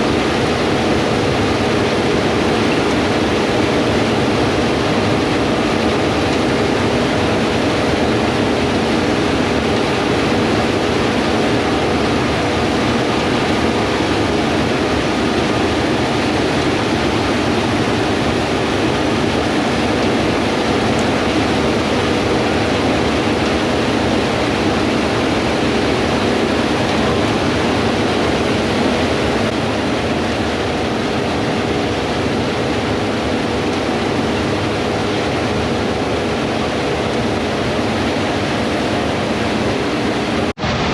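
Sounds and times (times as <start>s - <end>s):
diesel machinery droning: 0.0s - 40.9s.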